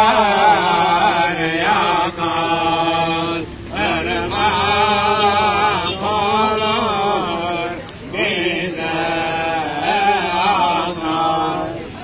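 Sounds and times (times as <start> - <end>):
man singing a devotional chant: 0.0 - 11.8.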